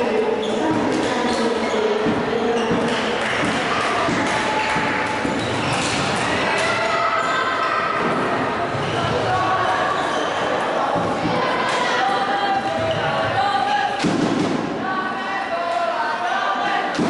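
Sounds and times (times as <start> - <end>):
voices calling out in a hall: 0.0 - 17.0.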